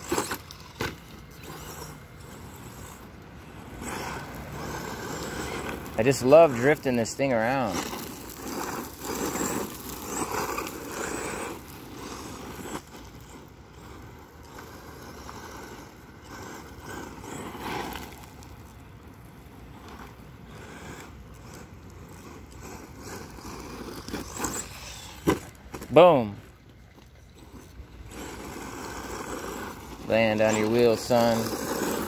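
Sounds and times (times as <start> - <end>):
rc truck motor: 0.0 - 32.0
tyres crunching through gravel: 0.0 - 32.0.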